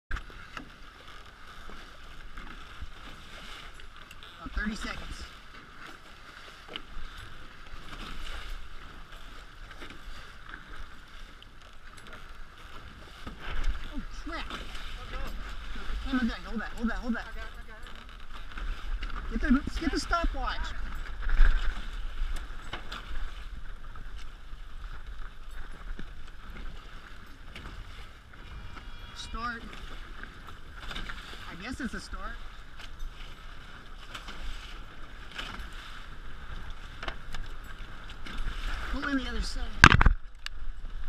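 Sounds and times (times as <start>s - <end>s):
water rushing along hulls: 0.1s - 41.0s.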